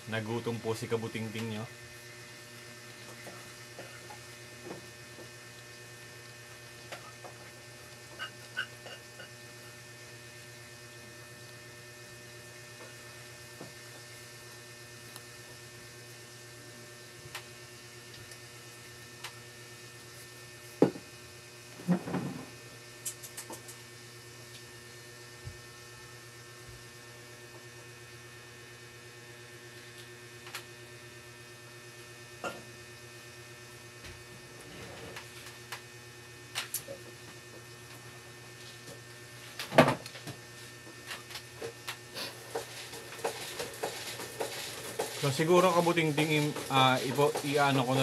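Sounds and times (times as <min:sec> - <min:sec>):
buzzy electrical hum: 0:00.0 - 0:48.0.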